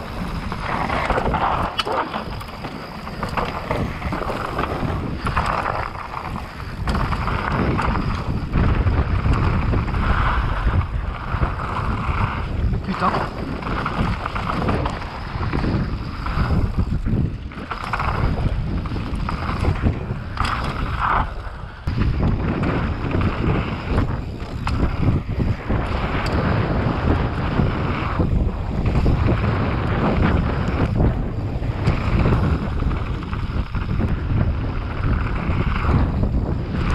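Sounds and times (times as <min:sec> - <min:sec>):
bike rumbling on trail: 0:00.0 - 0:36.9
wind buffeting microphone: 0:00.0 - 0:36.9.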